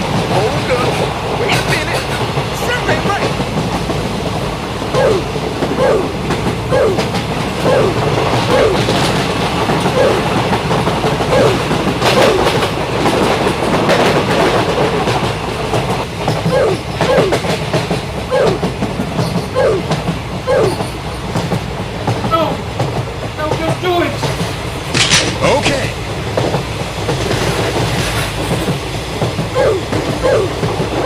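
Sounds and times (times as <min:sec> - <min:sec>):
train clattering: 0:00.0 - 0:31.0.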